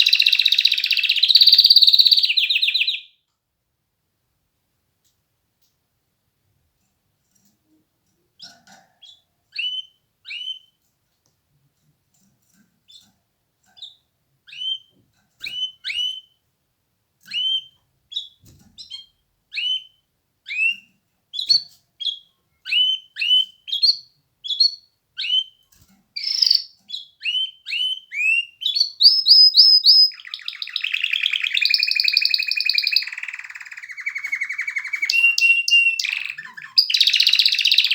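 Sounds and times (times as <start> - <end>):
canary chirping and trilling: 0.0 - 3.3, 6.7 - 10.9, 12.1 - 16.4, 17.2 - 37.9.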